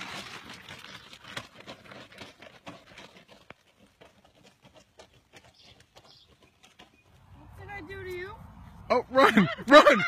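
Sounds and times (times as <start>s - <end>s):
child running on dirt road: 0.0s - 8.5s.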